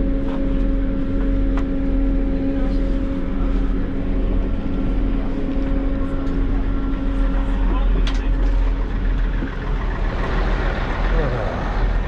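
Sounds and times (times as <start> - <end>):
steady droning hum: 0.0 - 12.0
train engine low rumble: 0.0 - 12.0.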